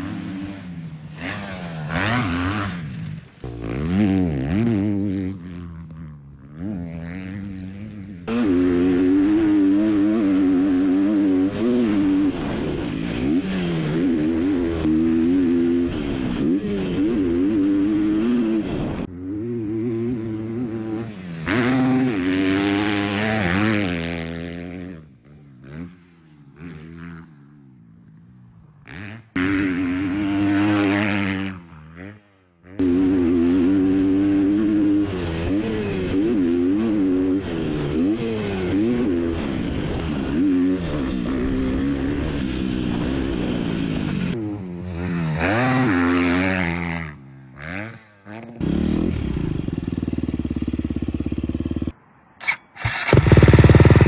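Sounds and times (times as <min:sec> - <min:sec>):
dirt bike engine revving: 0:00.0 - 0:27.6, 0:28.2 - 0:54.0.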